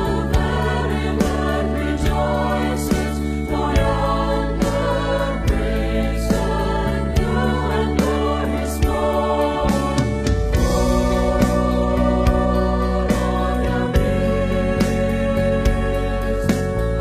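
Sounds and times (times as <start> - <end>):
choir singing harmonies: 0.0 - 17.0
held bass: 0.0 - 17.0
steady drum beat: 0.0 - 17.0.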